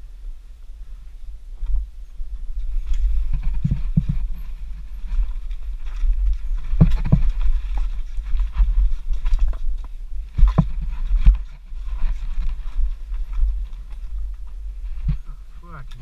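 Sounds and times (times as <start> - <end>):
wind rumble on microphone: 0.0 - 16.0
wheels clunking on rocks: 1.6 - 16.0
mountain bike rattling: 1.7 - 16.0.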